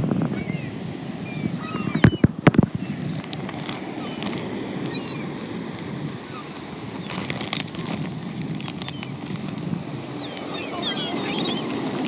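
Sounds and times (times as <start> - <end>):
surf: 0.0 - 12.0
wind on microphone: 0.0 - 12.0
gulls crying: 0.4 - 9.2, 9.8 - 12.0.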